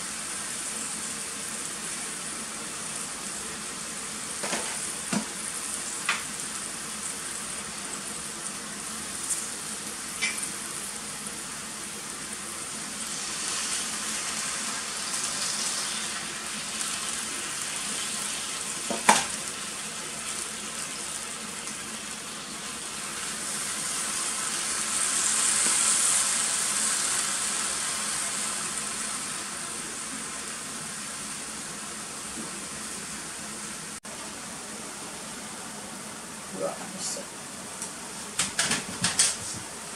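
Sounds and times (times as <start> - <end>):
food sizzling in a pot: 0.0 - 39.9.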